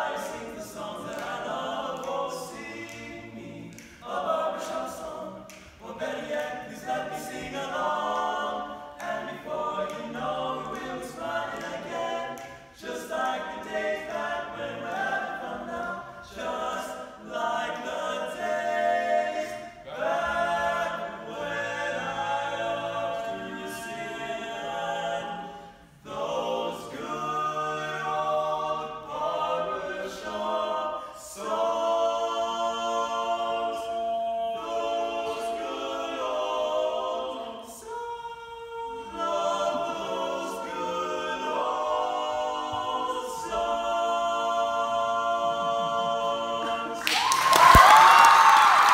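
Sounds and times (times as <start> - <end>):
male quartet singing a cappella: 0.0 - 47.1.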